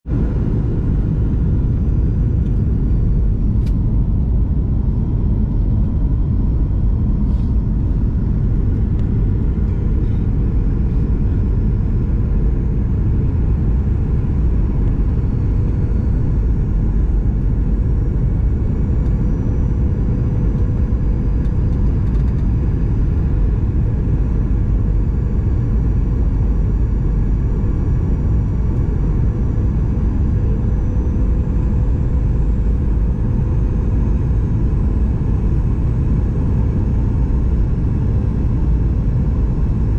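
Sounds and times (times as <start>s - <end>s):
airplane cabin rumble: 0.1s - 39.9s
faint hum tone: 0.1s - 39.9s.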